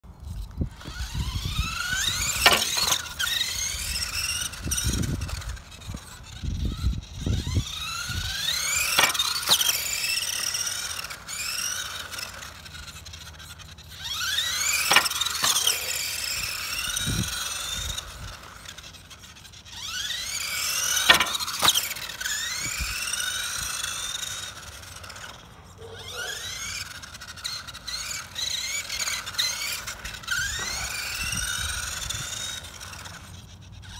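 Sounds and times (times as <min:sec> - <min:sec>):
toy truck electric motor whining: 0:00.0 - 0:33.9.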